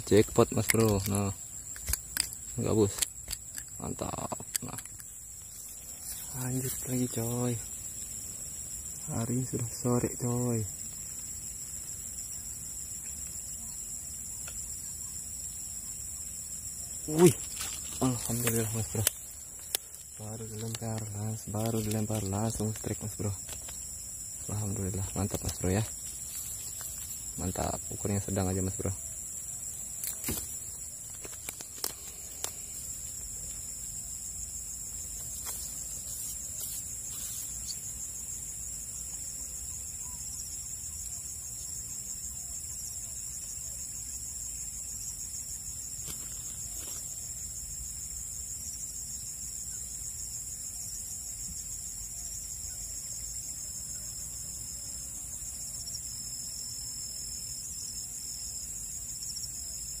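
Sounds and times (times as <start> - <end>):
shrill insect chorus: 0.0 - 60.0.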